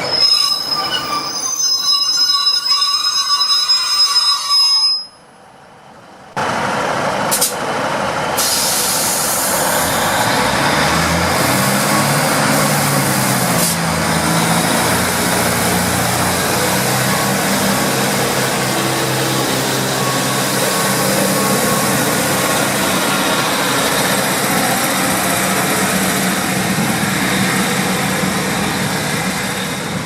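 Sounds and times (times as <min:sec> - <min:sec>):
train wheels squealing on rails: 0:00.0 - 0:05.4, 0:08.4 - 0:30.0
diesel train passing: 0:05.2 - 0:30.0.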